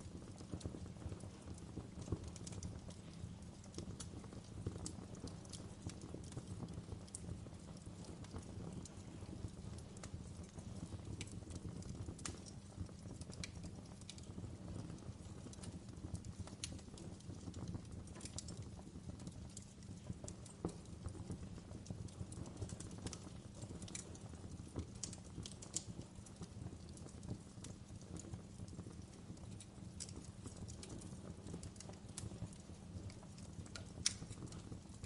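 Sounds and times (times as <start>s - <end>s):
log fire crackling and popping: 0.0s - 35.0s
low rumble of burning wood: 0.0s - 35.0s.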